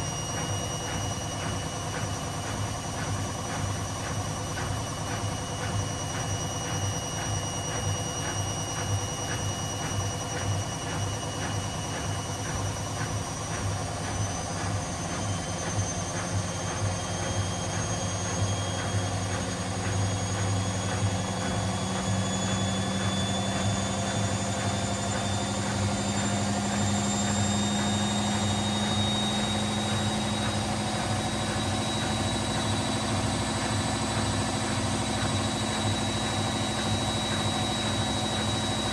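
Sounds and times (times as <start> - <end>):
washing machine motor whine: 0.0 - 38.9.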